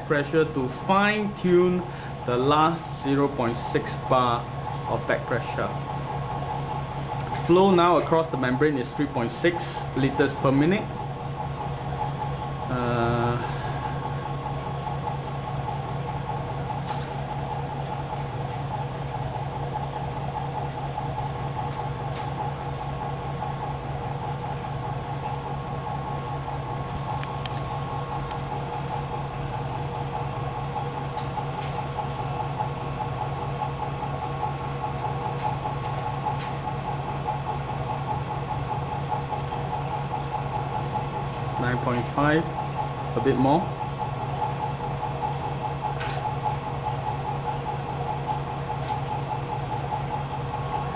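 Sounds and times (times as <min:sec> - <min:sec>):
pump humming: 0:00.0 - 0:50.9.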